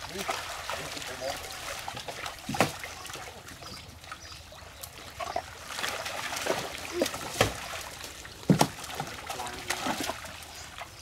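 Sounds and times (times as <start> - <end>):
water dripping and splashing from net: 0.0 - 11.0.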